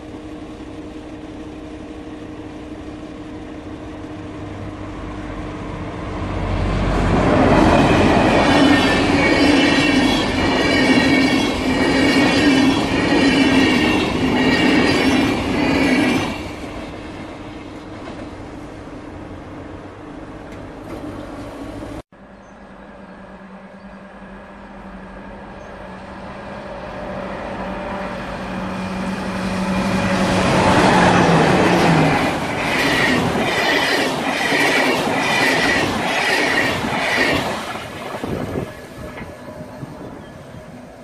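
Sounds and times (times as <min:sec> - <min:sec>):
diesel locomotive engine passing: 0:00.0 - 0:41.0.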